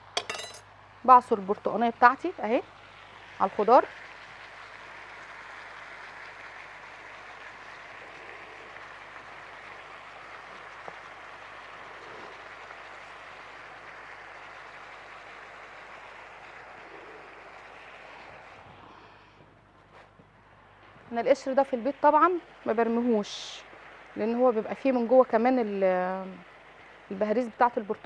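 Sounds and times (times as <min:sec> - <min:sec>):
vegetables sizzling in a pan: 0:00.0 - 0:18.6, 0:20.6 - 0:28.0.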